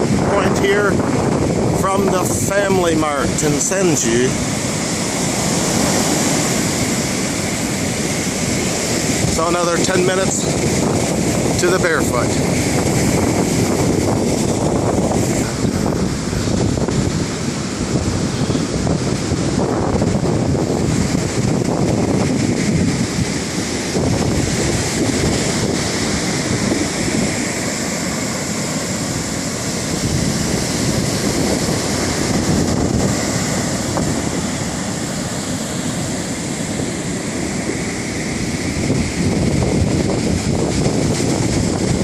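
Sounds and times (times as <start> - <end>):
rushing noise in gusts: 0.0 - 42.0
wind buffeting microphone: 0.0 - 42.0.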